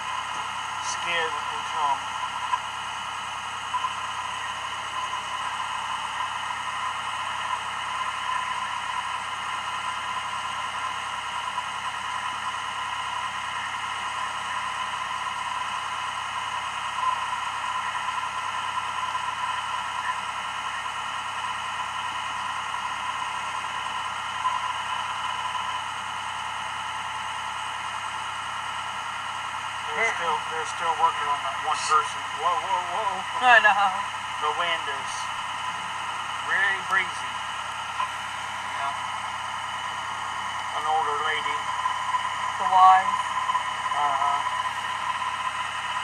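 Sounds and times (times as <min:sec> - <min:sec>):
steady high whine: 0:00.0 - 0:46.0.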